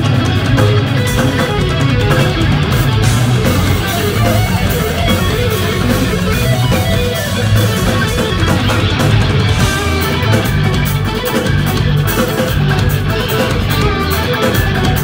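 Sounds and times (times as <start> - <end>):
drum kit: 0.0 - 15.0
electric guitars: 0.0 - 15.0.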